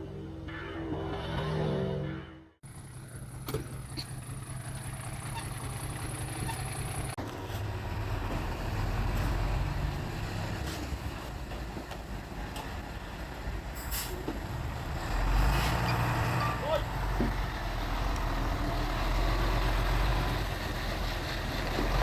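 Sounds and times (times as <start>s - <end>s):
heavy diesel machinery drone: 0.0s - 22.0s.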